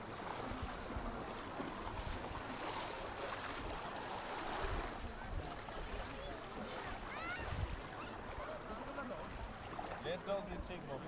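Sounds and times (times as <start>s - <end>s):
small waves washing on shore: 0.0s - 10.4s.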